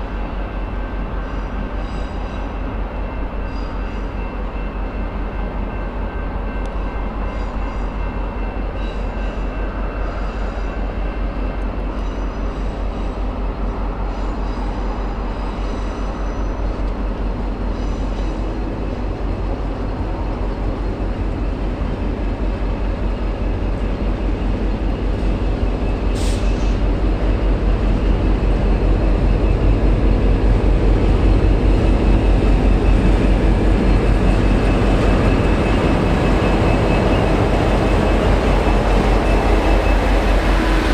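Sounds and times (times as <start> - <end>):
diesel locomotive throbbing: 0.0 - 40.9.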